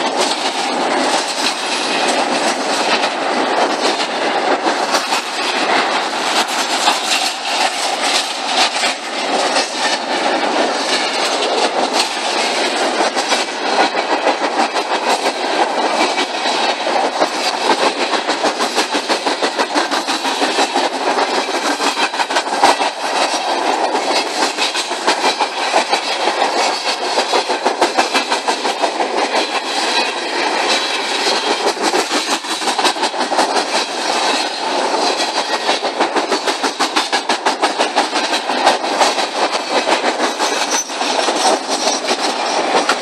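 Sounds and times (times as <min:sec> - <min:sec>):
train wheels rumbling and clattering: 0:00.0 - 0:43.0.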